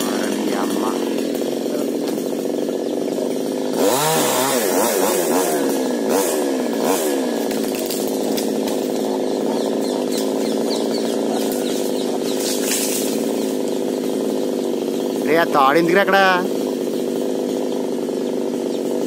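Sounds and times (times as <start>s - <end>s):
chainsaw revving and cutting: 0.0s - 19.0s.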